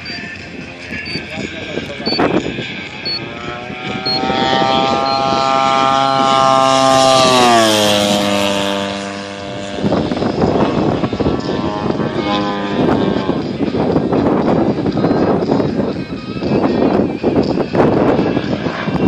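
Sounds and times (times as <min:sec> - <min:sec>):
model plane engine flying past: 0:00.0 - 0:19.0.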